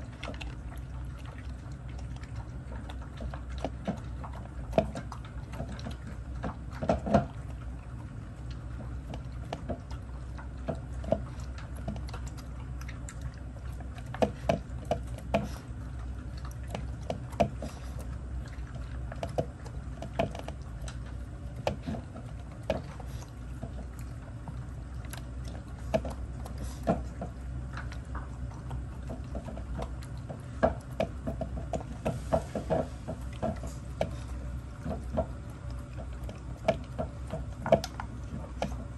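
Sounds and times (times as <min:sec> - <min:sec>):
dogs crunching dry kibble: 0:00.0 - 0:38.9
kibble clicking against bowls: 0:00.0 - 0:38.9.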